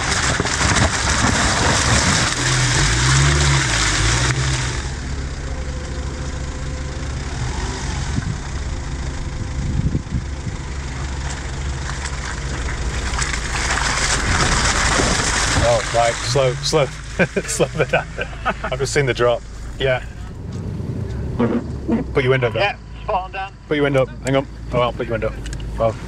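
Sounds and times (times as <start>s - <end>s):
suv engines running low: 0.0s - 26.0s.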